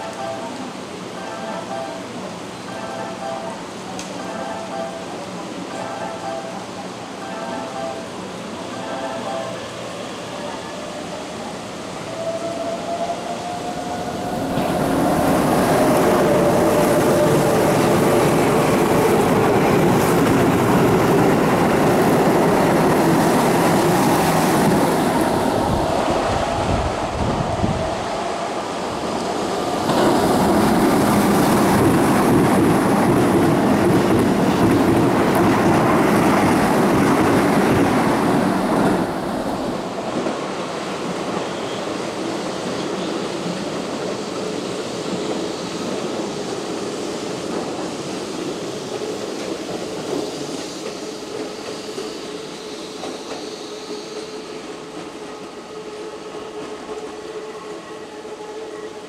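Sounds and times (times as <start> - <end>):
slow trains on curved track: 0.0 - 59.0
train wheels rumbling on rails: 7.8 - 59.0.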